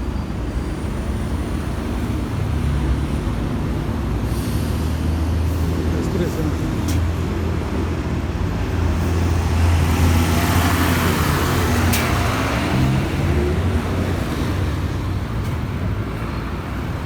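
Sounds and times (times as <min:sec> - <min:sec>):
bus engine drone: 0:00.0 - 0:17.0
general traffic: 0:00.0 - 0:17.0
tyre and road noise: 0:00.0 - 0:17.0.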